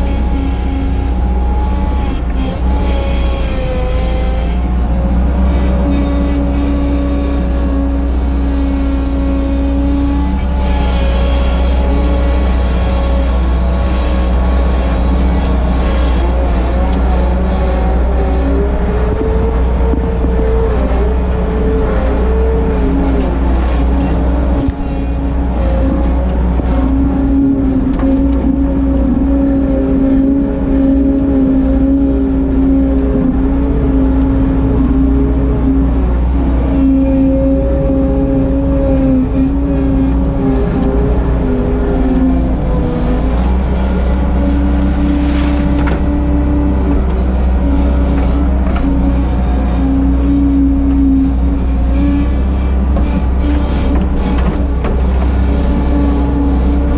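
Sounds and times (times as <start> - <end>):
machine whine: 0.0 - 56.9
skid-steer loader engine drone: 0.0 - 56.9.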